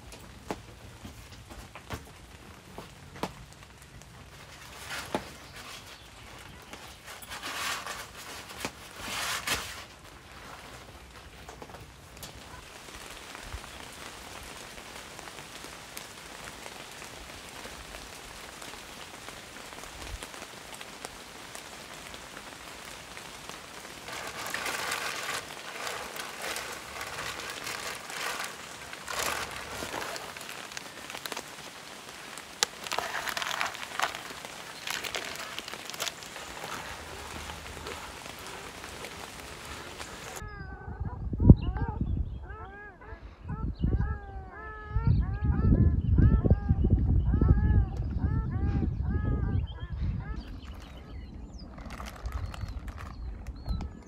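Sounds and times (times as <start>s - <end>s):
rain falling: 0.0s - 40.4s, 50.5s - 54.0s.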